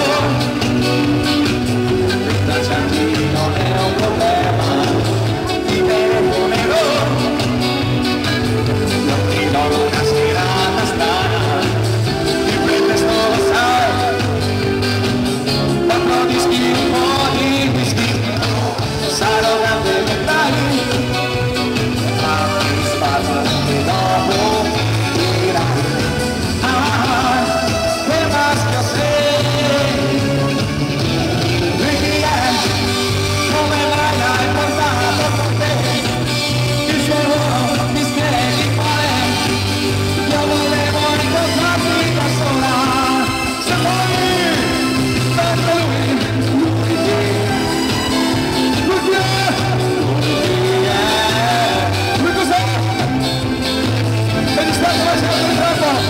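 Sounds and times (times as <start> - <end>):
bass guitar: 0.0 - 56.0
drum kit: 0.0 - 56.0
electric guitars: 0.0 - 56.0
lead singer singing: 0.0 - 56.0
live band playing: 0.0 - 56.0.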